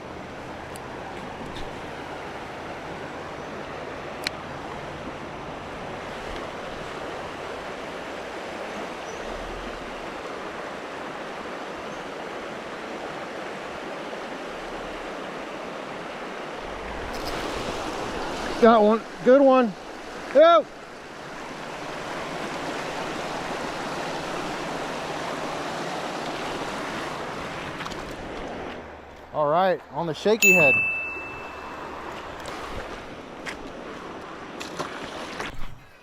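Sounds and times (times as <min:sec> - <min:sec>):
river water rushing: 0:00.0 - 0:29.4, 0:30.4 - 0:35.5.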